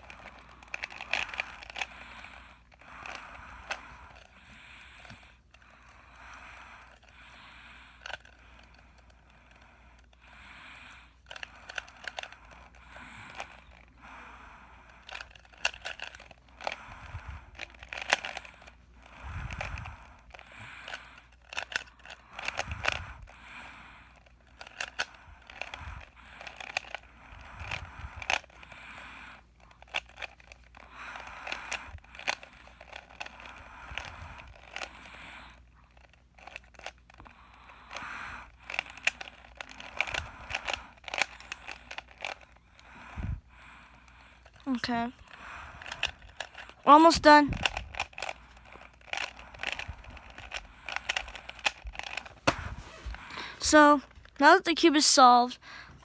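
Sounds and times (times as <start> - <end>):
speed cube clicking and scraping: 0.0 - 55.4.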